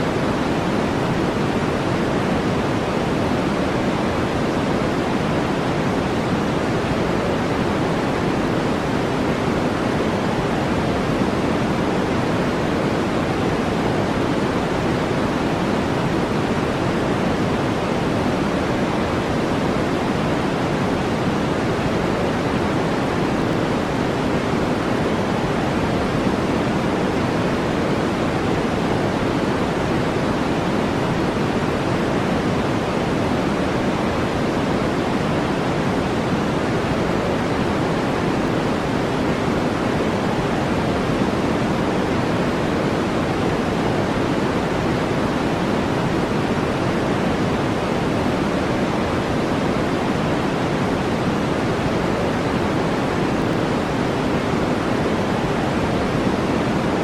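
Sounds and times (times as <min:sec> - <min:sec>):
steady synthetic noise hiss: 0:00.0 - 0:57.0.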